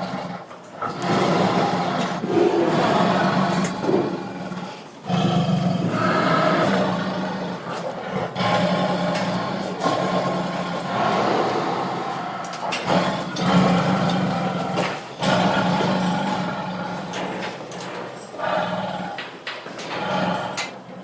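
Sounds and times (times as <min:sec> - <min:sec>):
tiger roaring: 0:00.0 - 0:21.0.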